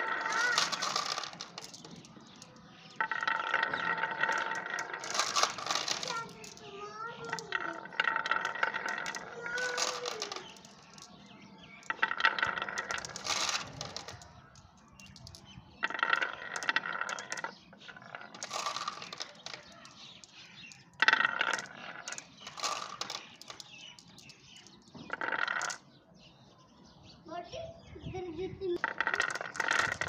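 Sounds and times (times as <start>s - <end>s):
glass marbles clattering on wood: 0.0s - 26.0s, 28.8s - 30.0s.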